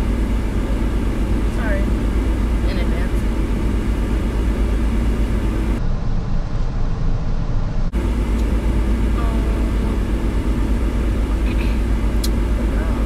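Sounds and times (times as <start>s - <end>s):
car engine idling: 0.0s - 5.9s, 7.7s - 13.0s.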